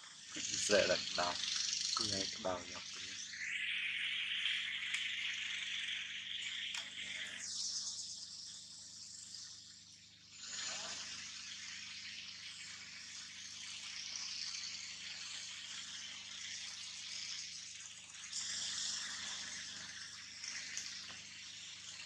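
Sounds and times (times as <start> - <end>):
high-pitched outdoor hiss: 0.0 - 22.0.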